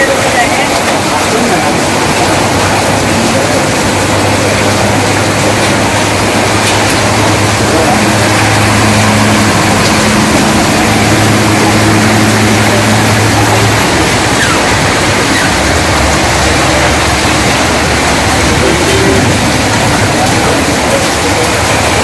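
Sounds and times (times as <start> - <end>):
engine humming: 0.0 - 22.0
heavy rain and wind roaring: 0.0 - 22.0.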